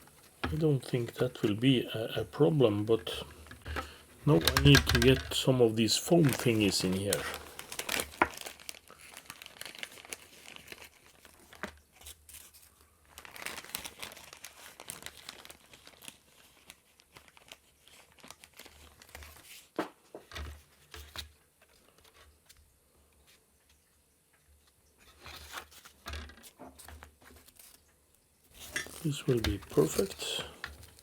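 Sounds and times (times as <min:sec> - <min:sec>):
packing foam crinkling and tearing: 0:00.2 - 0:19.8, 0:25.0 - 0:27.9, 0:28.6 - 0:31.0.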